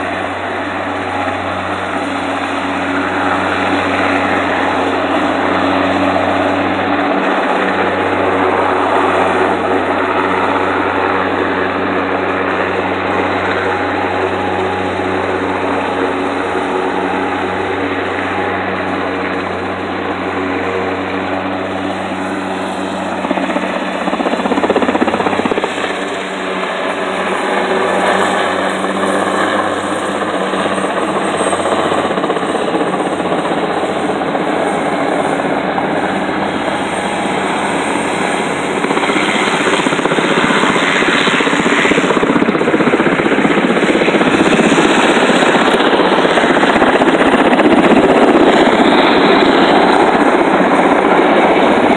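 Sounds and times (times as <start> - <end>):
helicopter rotor and engine: 0.0 - 51.9.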